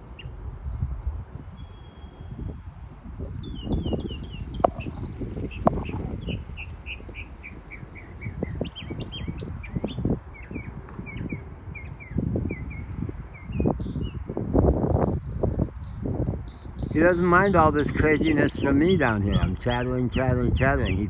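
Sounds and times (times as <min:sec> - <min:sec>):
bird singing repeated notes: 0:00.0 - 0:02.5, 0:03.2 - 0:14.3, 0:15.8 - 0:21.0.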